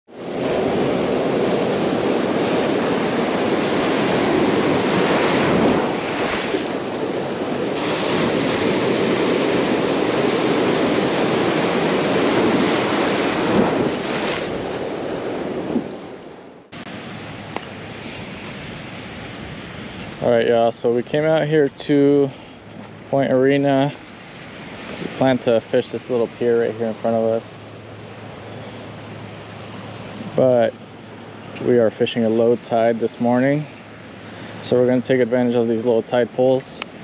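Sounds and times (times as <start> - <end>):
wind: 0.0 - 37.0
ocean waves breaking: 0.1 - 37.0.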